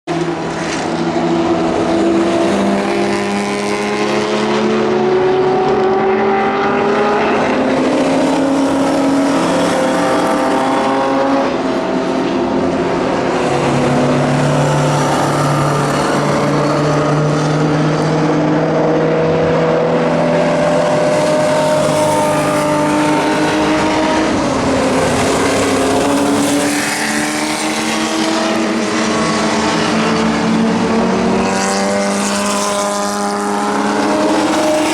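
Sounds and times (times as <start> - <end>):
race car engines passing: 0.1 - 34.9.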